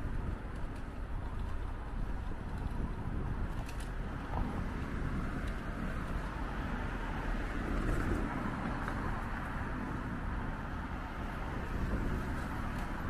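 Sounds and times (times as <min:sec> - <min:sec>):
city street traffic: 0:00.0 - 0:13.0
wind rumble on microphone: 0:00.0 - 0:13.0.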